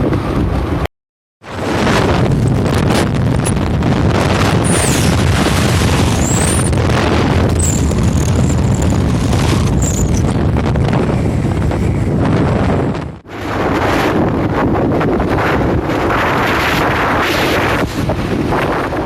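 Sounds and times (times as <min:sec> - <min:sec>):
motorcycle engine and road rumble: 0:01.5 - 0:19.0
wind buffeting microphone: 0:01.5 - 0:19.0.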